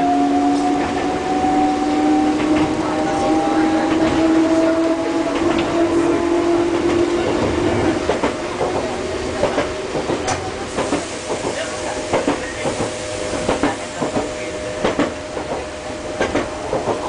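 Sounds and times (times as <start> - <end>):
train interior hum: 0.0 - 17.0
train wheels clicking over rails: 0.4 - 17.0.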